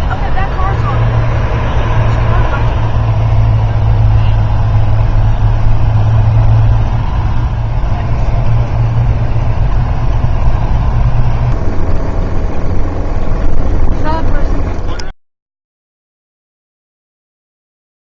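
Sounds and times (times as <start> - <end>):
engine and drivetrain drone: 0.0 - 15.2
road noise: 0.0 - 15.2.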